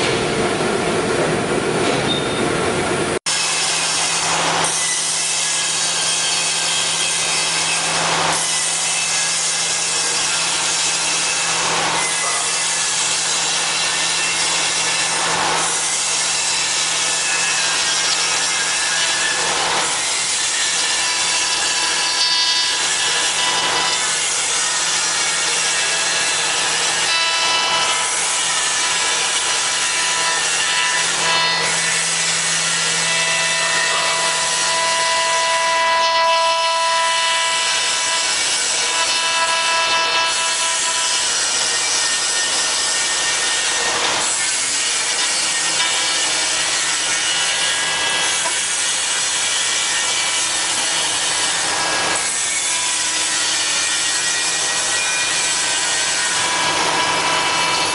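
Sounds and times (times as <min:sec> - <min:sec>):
router bit cutting wood: 0:03.2 - 0:57.9.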